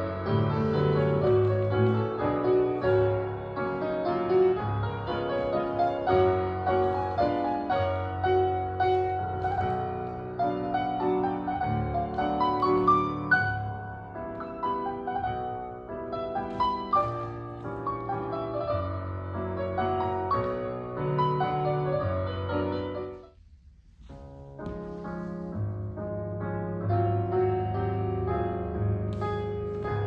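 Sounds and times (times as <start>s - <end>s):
solo piano playing: 0.0s - 23.4s, 24.1s - 30.0s.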